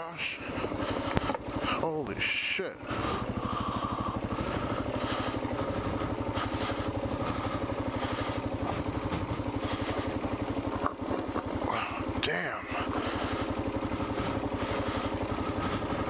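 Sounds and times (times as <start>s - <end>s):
motorcycle engine running steadily: 0.0s - 16.0s.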